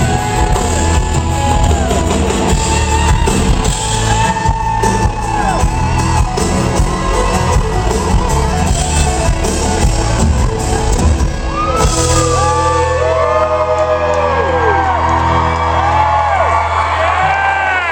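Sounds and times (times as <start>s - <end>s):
live band playing loud: 0.0s - 16.9s
crowd shouting and whooping: 0.0s - 17.9s.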